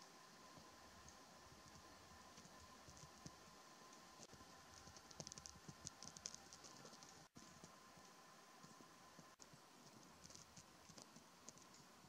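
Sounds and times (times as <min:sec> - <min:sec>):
faint hiss: 0:00.0 - 0:12.0
faint steady hum: 0:00.0 - 0:12.0
light quick ticks and crackles: 0:00.6 - 0:12.0.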